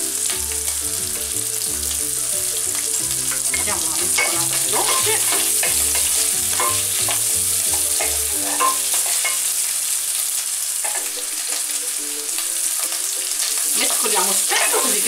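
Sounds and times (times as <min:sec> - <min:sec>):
sausage sizzling in butter: 0:00.0 - 0:15.0.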